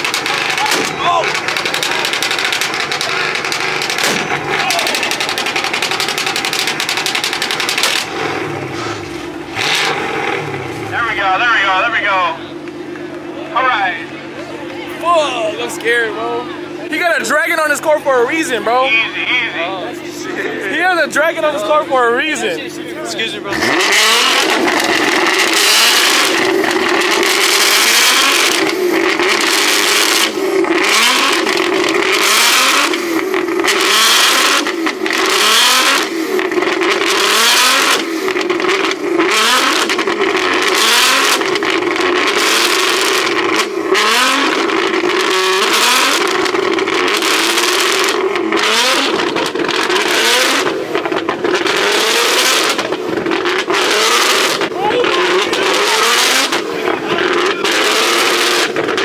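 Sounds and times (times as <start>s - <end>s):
car engine revving hard: 0.0s - 14.3s, 19.3s - 59.0s
tyres screeching: 0.0s - 14.3s, 20.9s - 59.0s.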